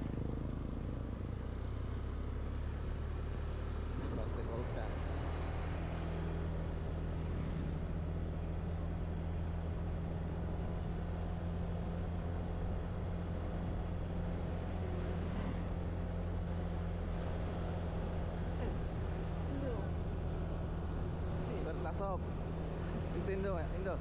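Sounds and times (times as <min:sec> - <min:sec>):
motorcycle engine humming: 0:00.0 - 0:04.2, 0:05.2 - 0:24.0.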